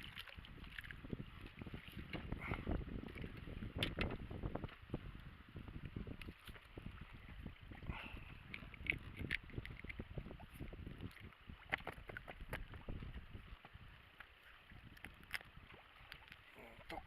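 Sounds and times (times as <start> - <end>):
wind buffeting microphone: 0.0 - 14.0
water lapping against boat: 0.0 - 17.0.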